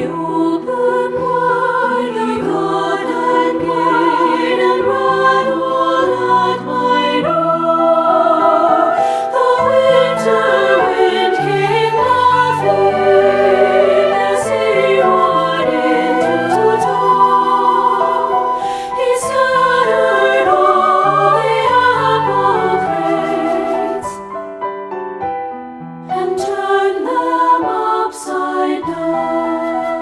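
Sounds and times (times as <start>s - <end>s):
treble choir singing: 0.0s - 24.3s, 26.0s - 30.0s
piano accompaniment: 0.0s - 30.0s.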